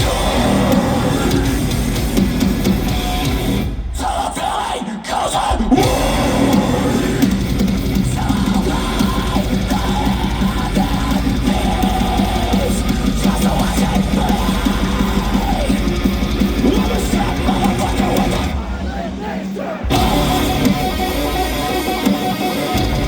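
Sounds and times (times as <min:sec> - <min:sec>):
loud metal band playing: 0:00.0 - 0:23.0
pounding drum kit: 0:00.0 - 0:23.0.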